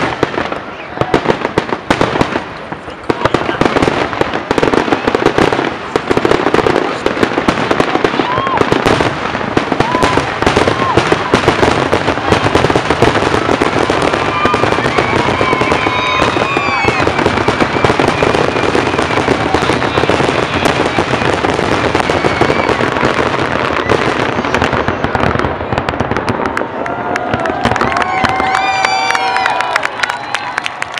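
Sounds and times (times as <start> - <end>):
fireworks whistling: 0.0 - 26.6
fireworks bangs and crackling: 0.0 - 30.9.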